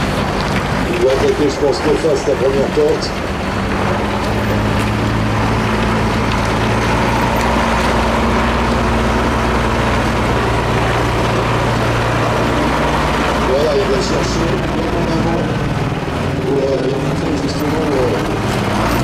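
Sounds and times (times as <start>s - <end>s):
truck diesel engine under load: 0.0s - 19.0s.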